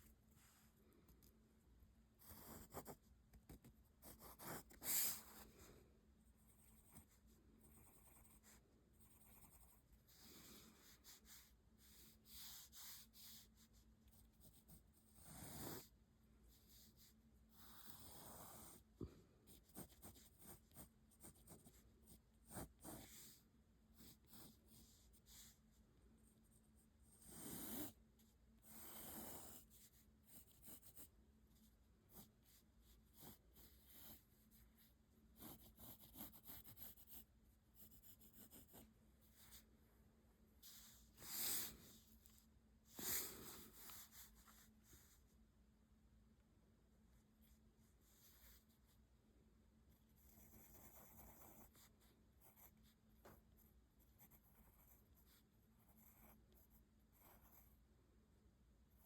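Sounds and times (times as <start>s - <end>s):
faint steady hum: 0.0s - 59.0s
pencil scratching on paper: 2.2s - 39.7s, 40.6s - 45.3s, 47.4s - 48.9s, 49.9s - 57.9s.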